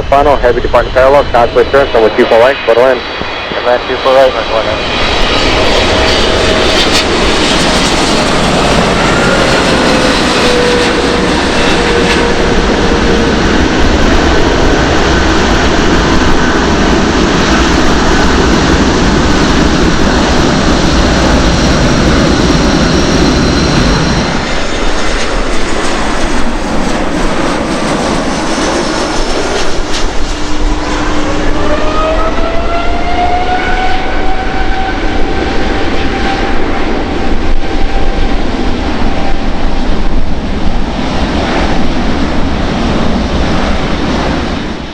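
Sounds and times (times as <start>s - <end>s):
jet engines roaring: 0.0s - 44.9s
jet engines spooling up whine: 0.0s - 44.9s.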